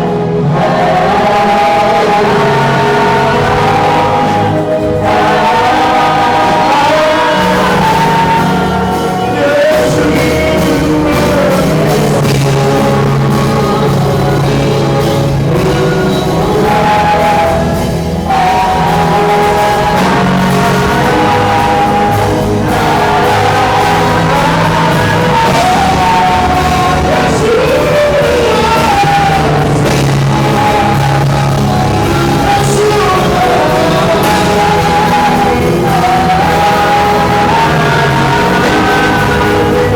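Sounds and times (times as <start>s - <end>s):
band playing worship music: 0.0s - 39.9s
person singing long notes: 0.0s - 39.9s.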